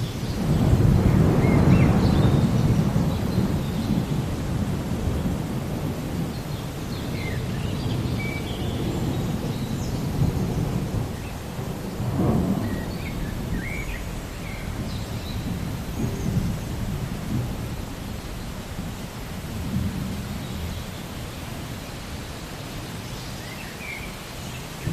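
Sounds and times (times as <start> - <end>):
rolling thunder: 0.0 - 23.0
steady rain: 0.0 - 24.9.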